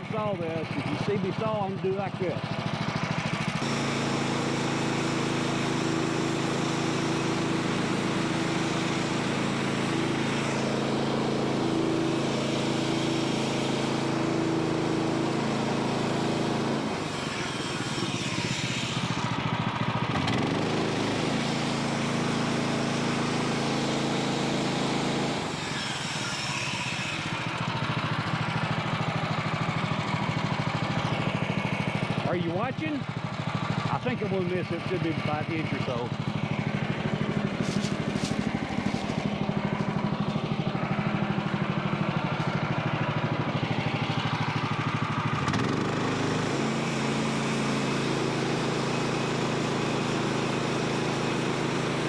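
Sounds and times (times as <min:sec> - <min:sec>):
gas engine running: 0:00.0 - 0:52.0
bandsaw blade cutting log: 0:00.6 - 0:52.0.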